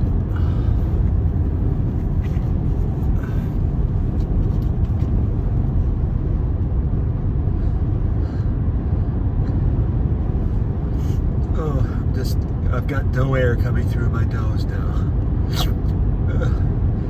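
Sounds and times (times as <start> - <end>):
car interior engine and road noise: 0.0 - 17.0.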